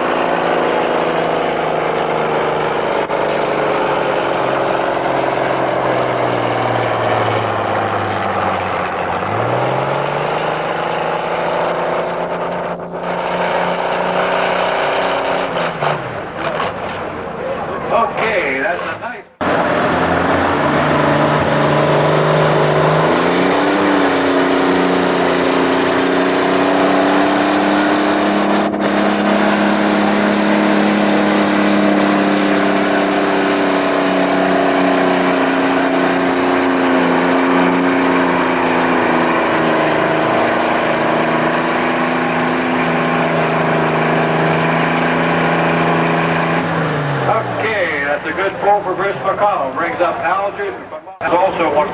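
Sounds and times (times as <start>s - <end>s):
tractor engine revving: 0.0s - 51.9s.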